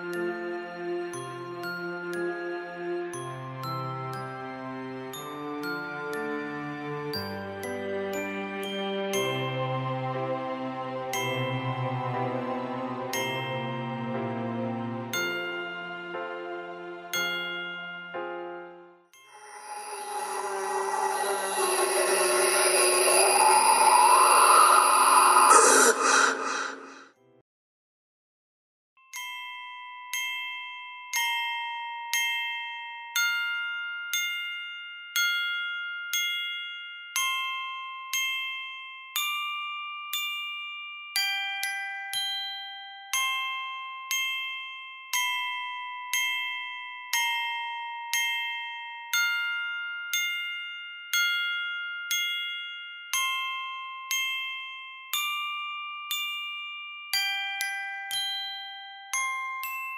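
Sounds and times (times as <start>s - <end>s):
bell-like mallet percussion music: 0.0s - 10.3s, 15.1s - 25.9s, 29.0s - 59.9s.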